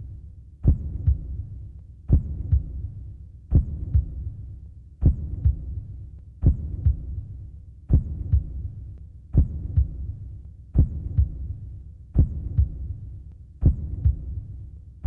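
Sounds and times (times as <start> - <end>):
heartbeat thumps: 0.6 - 4.4, 5.0 - 14.6.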